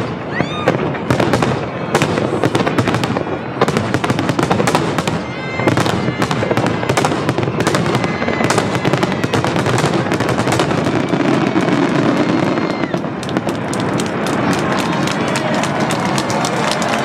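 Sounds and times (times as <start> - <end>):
fireworks bursts and crackling: 0.0 - 17.0.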